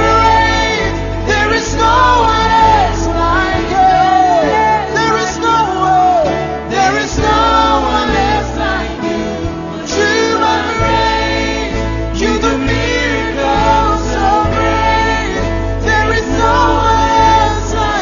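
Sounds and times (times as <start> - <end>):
acoustic guitar: 0.0 - 18.0
choir singing: 0.0 - 18.0
steady bass: 0.0 - 18.0.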